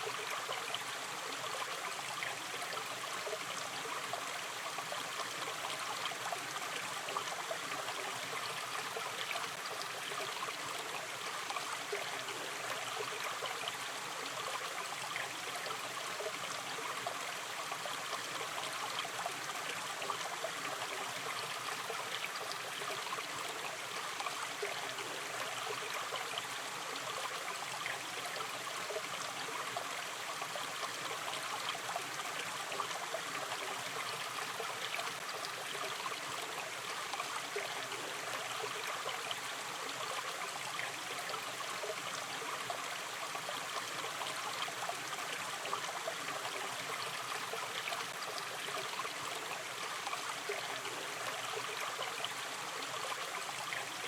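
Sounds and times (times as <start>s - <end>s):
stream water rushing and trickling: 0.0s - 54.0s.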